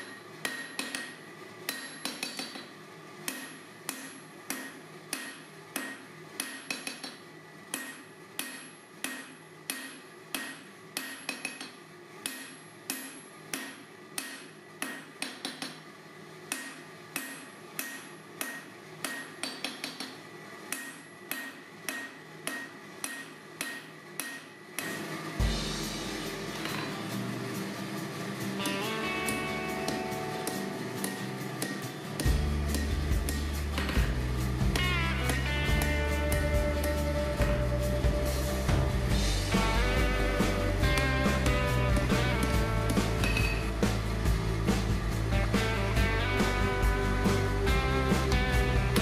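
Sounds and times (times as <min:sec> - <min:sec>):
hammer striking steel on anvil: 0:00.0 - 0:15.8, 0:16.5 - 0:27.2, 0:28.6 - 0:44.1.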